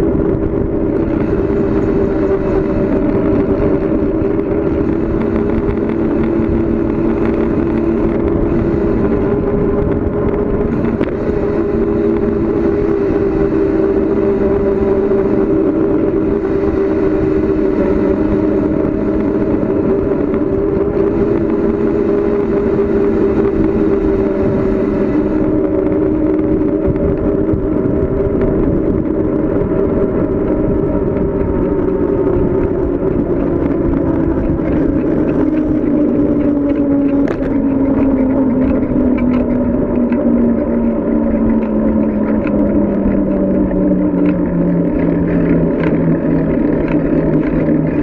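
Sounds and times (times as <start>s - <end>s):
bicycle road noise: 0.0s - 48.0s
low rumble and hum: 0.0s - 48.0s
rush of wind: 0.0s - 48.0s.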